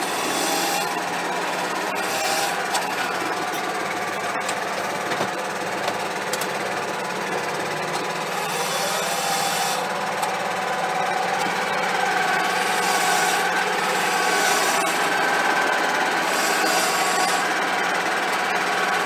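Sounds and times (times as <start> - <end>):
diesel tractor engine idling: 0.0 - 19.0.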